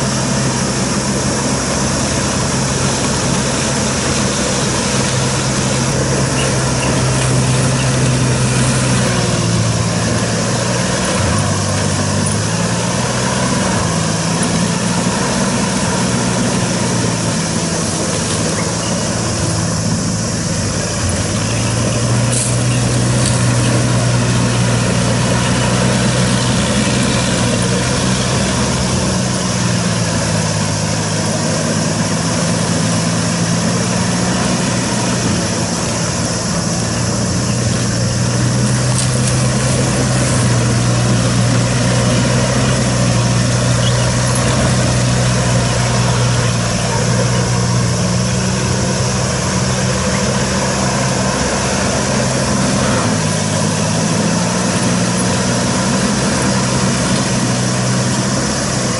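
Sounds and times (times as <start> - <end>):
mower engine drone: 0.0 - 58.9.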